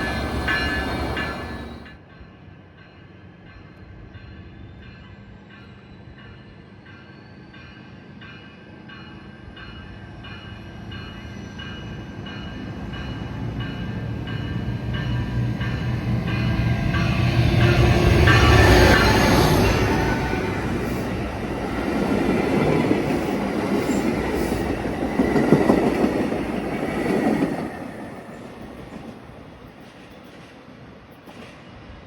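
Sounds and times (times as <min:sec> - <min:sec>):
train rumbling: 0:00.0 - 0:02.3, 0:03.5 - 0:32.0.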